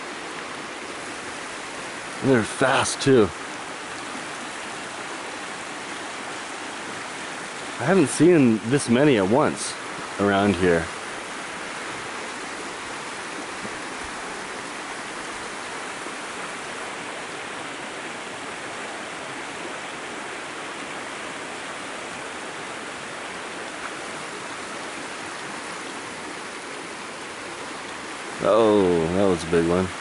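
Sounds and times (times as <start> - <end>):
running water rushing: 0.0 - 30.0.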